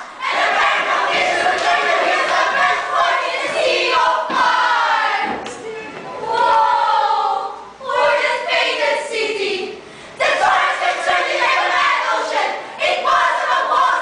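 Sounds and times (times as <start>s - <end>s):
women singing together: 0.0s - 5.6s, 6.2s - 14.0s.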